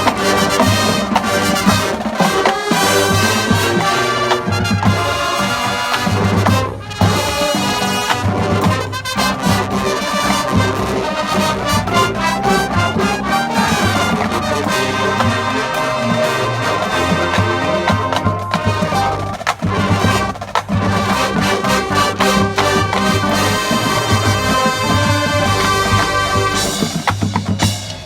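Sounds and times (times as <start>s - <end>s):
brass leading: 0.0s - 27.3s
marching band playing: 0.0s - 28.0s.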